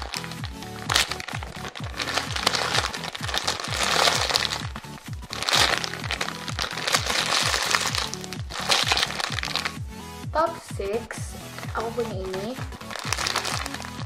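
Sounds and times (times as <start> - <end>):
music with falling bass notes: 0.0 - 14.0.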